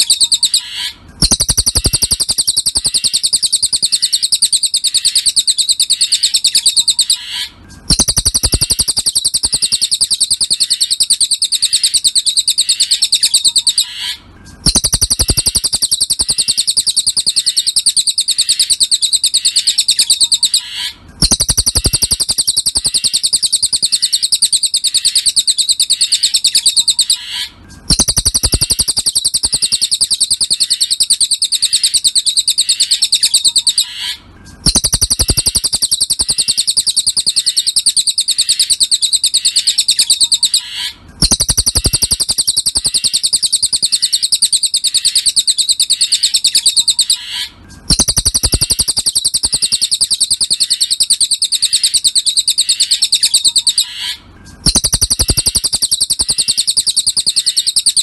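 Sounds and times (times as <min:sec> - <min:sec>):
songbird high-pitched trill: 0:00.0 - 0:58.0.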